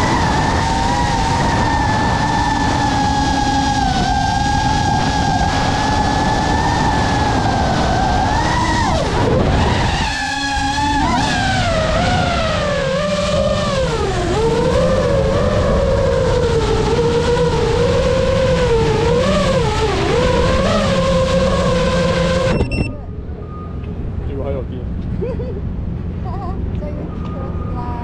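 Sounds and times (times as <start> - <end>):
drone motors whining: 0.0 - 24.2
wind noise rumble: 0.0 - 28.0.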